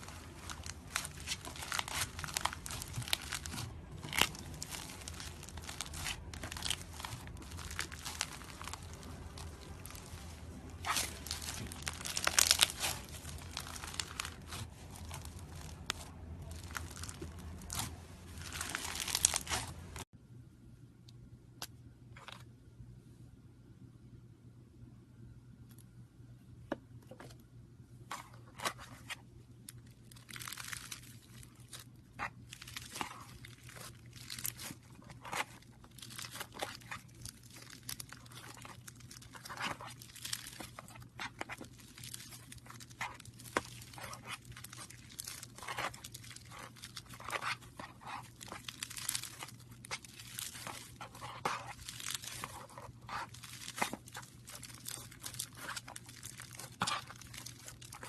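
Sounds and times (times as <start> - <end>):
slime crackling and popping: 0.0 - 20.0, 29.7 - 58.0.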